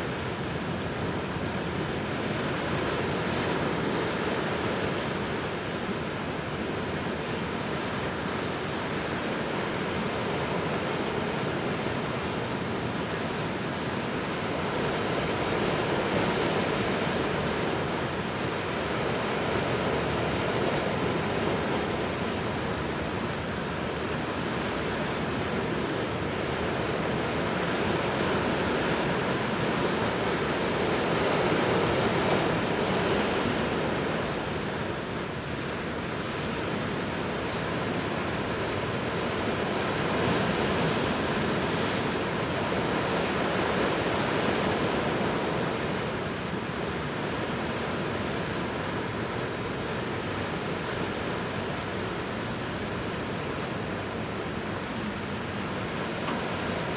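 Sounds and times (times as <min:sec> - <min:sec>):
waves: 0:00.0 - 0:56.9
wind: 0:00.0 - 0:56.9.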